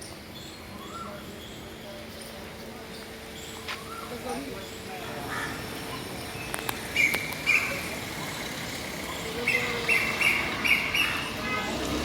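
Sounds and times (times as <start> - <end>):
bird chirping: 0.0 - 11.4
outdoor background noise: 0.0 - 12.0.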